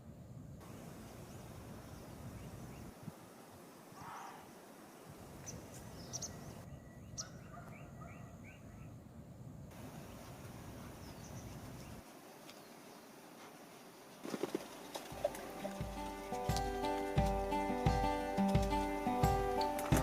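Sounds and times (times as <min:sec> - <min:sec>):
outdoor background hiss: 0:00.0 - 0:20.0
birds chirping: 0:00.6 - 0:09.0, 0:09.7 - 0:20.0.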